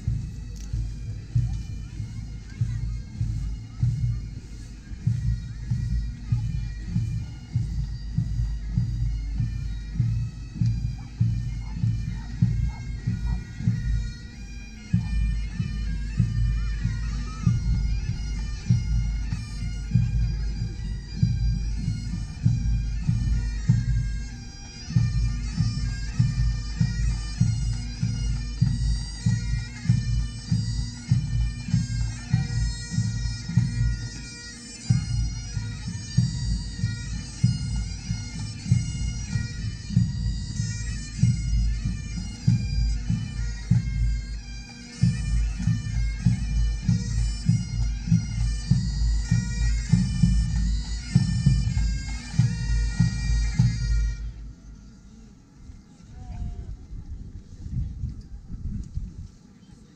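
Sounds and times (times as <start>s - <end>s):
bagpipes playing a tune: 0.0s - 55.3s.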